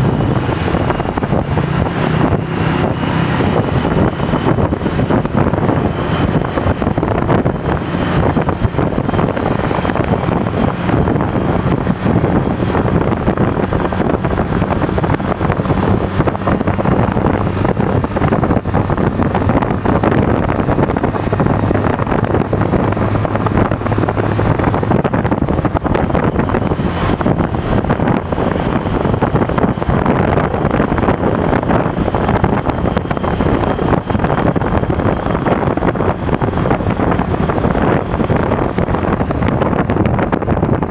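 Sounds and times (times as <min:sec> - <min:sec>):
motorcycle taxi engine running: 0:00.0 - 0:40.9
road noise: 0:00.0 - 0:40.9
wind buffeting microphone: 0:00.0 - 0:40.9.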